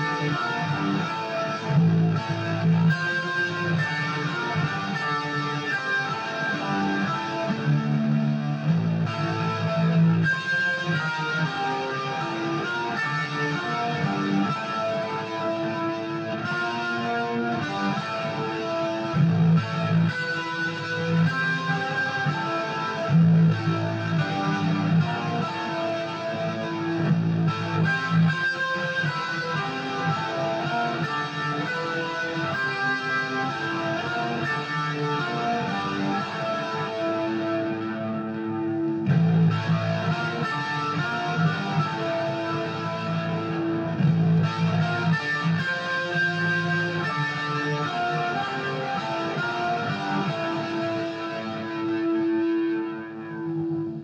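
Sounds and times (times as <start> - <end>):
electric guitar with pitch-shift effect: 0.0 - 54.0.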